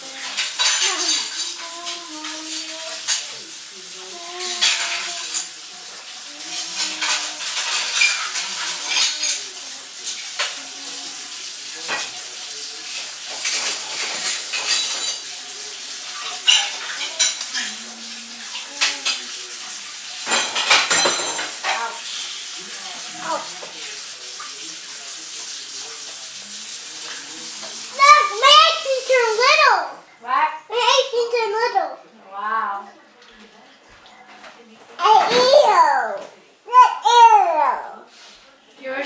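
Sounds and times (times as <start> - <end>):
dishes and cutlery clattering: 0.0 - 29.8, 33.2 - 37.3
running water: 0.0 - 39.0.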